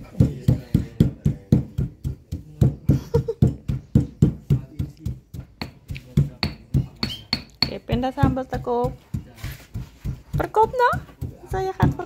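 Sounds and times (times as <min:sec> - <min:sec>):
pestle pounding in stone mortar: 0:00.0 - 0:12.0.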